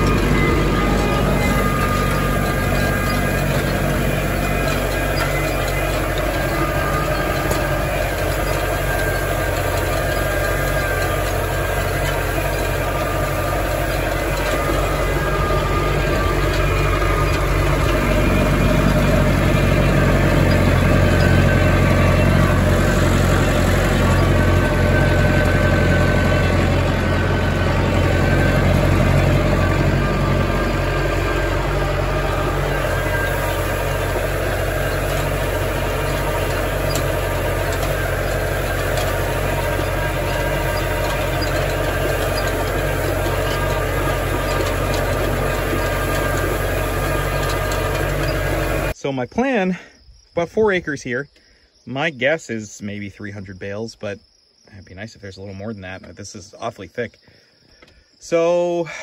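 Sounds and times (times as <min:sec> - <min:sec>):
tractor engine running: 0:00.0 - 0:49.6.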